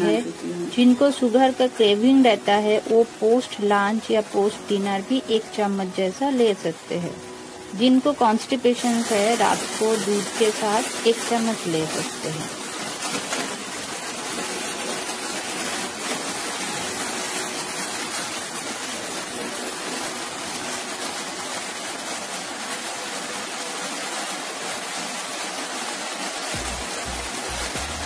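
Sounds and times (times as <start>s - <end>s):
jam sizzling and bubbling in pan: 0.0s - 28.0s.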